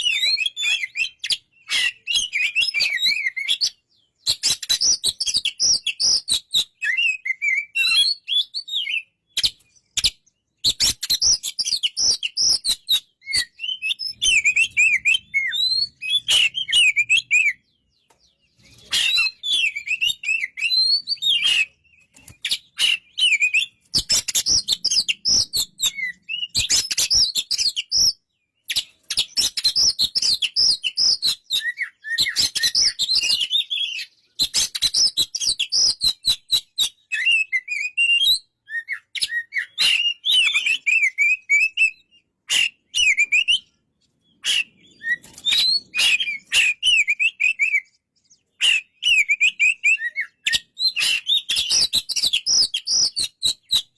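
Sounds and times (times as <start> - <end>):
bird singing whistled phrases: 0.0 - 53.9.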